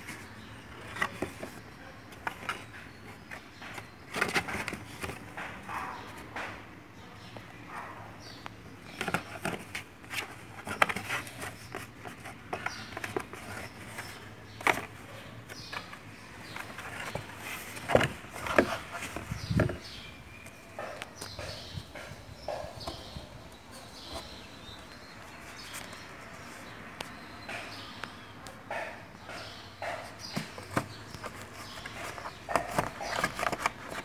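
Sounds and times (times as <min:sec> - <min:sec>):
kitten scratching cardboard: 0:00.0 - 0:06.2, 0:08.8 - 0:26.7, 0:29.8 - 0:34.0.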